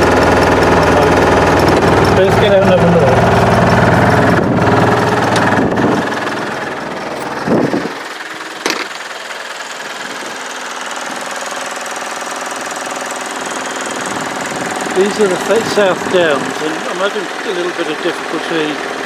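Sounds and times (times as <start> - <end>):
engine low hum: 0.0 - 19.0.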